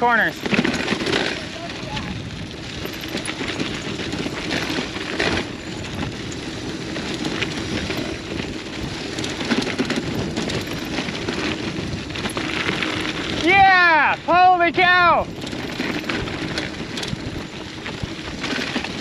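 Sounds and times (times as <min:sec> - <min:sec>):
bike tyres rolling on gravel: 0:00.0 - 0:19.0
stones and bike clicking: 0:00.0 - 0:19.0.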